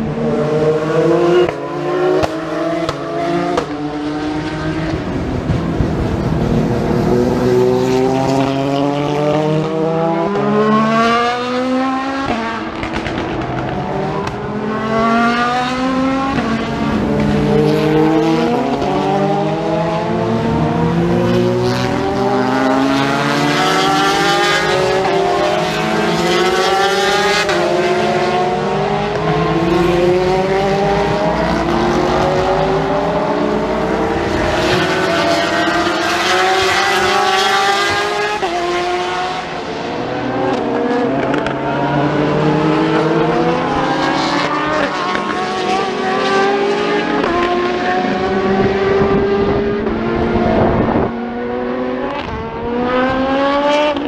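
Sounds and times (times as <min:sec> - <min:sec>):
race cars accelerating: 0:00.0 - 0:54.0.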